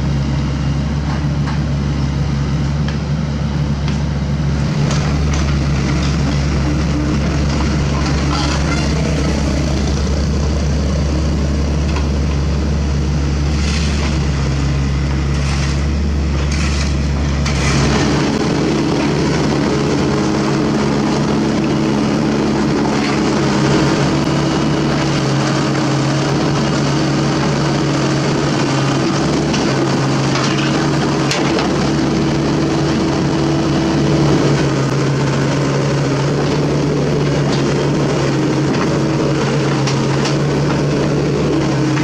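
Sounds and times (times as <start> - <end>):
deep engine rumble: 0.0 - 42.0
excavator diesel engine droning: 0.0 - 42.0.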